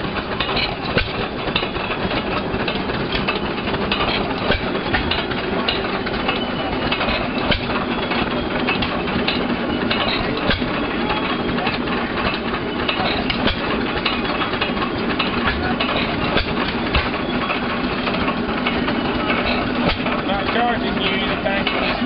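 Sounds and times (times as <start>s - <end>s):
engine mechanical clatter: 0.0s - 22.0s.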